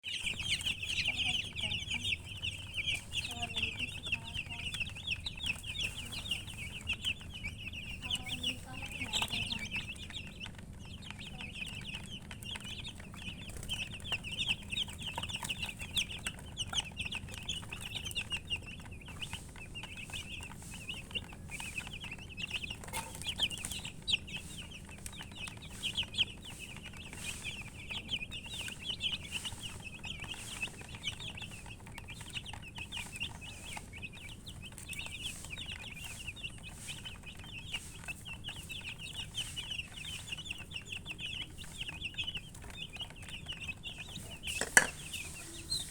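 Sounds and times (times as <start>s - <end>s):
baby chicks peeping: 0.0s - 45.9s.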